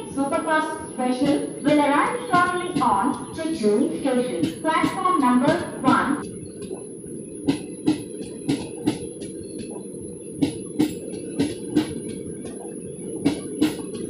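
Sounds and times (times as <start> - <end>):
wheels clacking over rail joints: 0.0 - 6.8, 7.5 - 14.0
train rumbling: 0.0 - 14.0.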